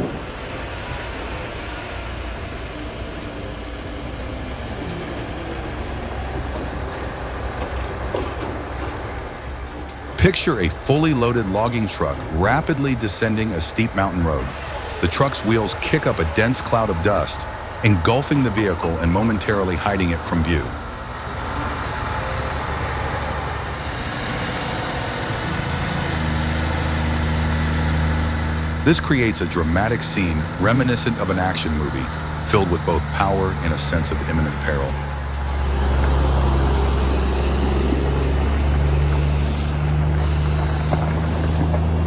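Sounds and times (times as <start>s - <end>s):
heavy machinery rumbling: 0.0s - 42.0s
road and tyre noise: 0.0s - 42.0s.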